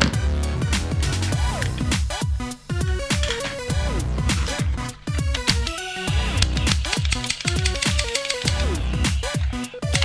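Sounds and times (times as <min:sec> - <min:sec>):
deep kick drum beats: 0:00.0 - 0:10.0
synth melody: 0:00.0 - 0:10.0.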